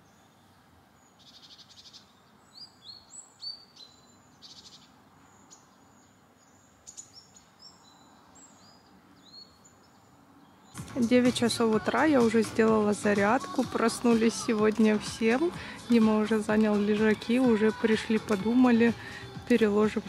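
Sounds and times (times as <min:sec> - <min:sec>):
background hiss: 0:00.0 - 0:20.0
songbirds chirping and trilling: 0:00.0 - 0:20.0.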